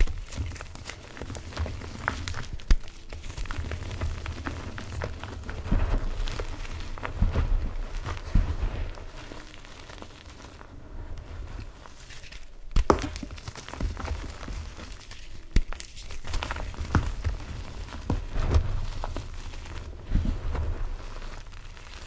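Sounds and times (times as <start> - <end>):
chalk crunching and sifting: 0.0 - 22.0.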